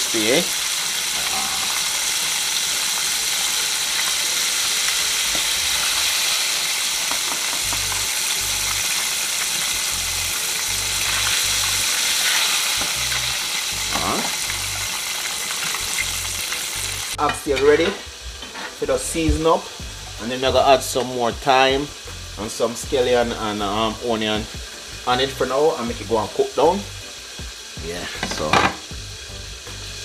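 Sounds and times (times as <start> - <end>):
chicken frying in oil: 0.0 - 17.8, 21.0 - 30.0.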